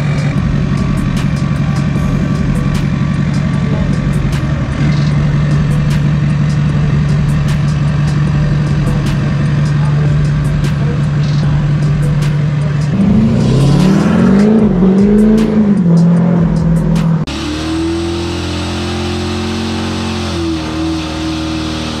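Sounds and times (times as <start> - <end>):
truck engine idling and revving: 0.0 - 22.0.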